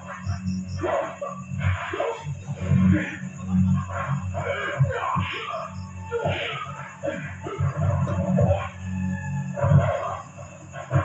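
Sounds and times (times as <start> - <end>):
film soundtrack music over loudspeakers: 0.0 - 11.0.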